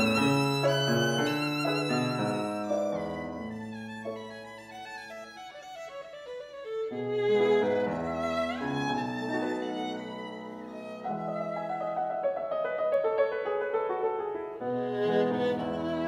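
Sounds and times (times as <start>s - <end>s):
violin and piano classical music: 0.0s - 16.0s.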